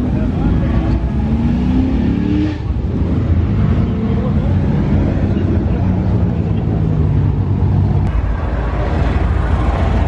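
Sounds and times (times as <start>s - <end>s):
car engines running: 0.0s - 10.0s.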